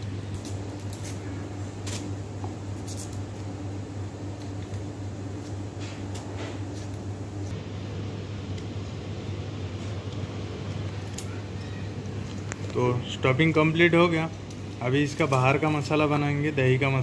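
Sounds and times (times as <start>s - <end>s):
kitchen ventilation hum: 0.0s - 17.0s.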